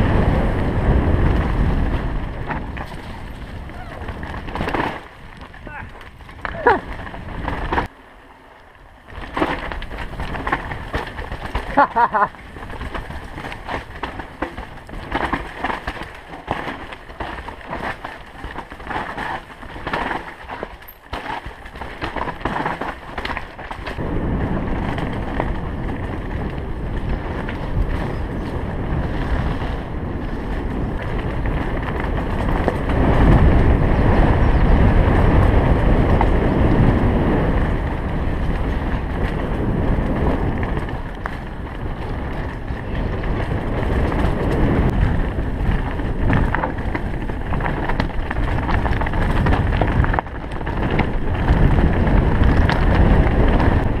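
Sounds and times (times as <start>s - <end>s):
wind buffeting microphone: 0.0s - 7.9s, 8.9s - 54.0s
bike rattling over roots: 0.0s - 54.0s
bike tyres rumbling over gravel: 0.0s - 54.0s.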